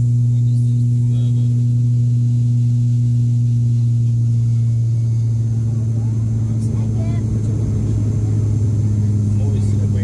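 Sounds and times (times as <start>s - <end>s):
turboprop engine and propeller drone: 0.0s - 10.0s.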